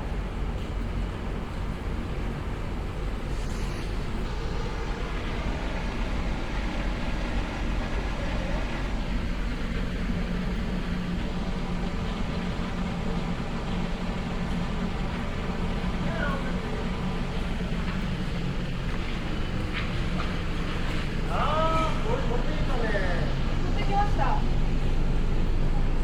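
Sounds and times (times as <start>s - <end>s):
street traffic noise: 0.0s - 26.0s
vehicle engine humming close by: 0.0s - 26.0s.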